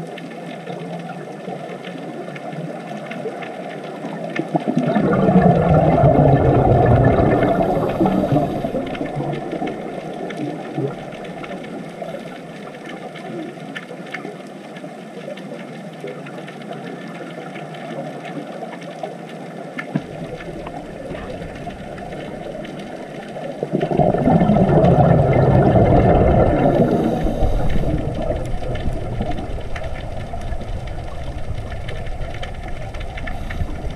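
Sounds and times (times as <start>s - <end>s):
muffled underwater rush: 0.0s - 33.9s.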